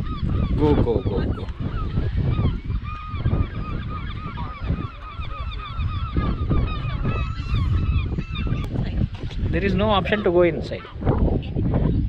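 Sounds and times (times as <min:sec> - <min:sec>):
gulls calling: 0:00.0 - 0:12.0
wind rumble on microphone: 0:00.0 - 0:12.0.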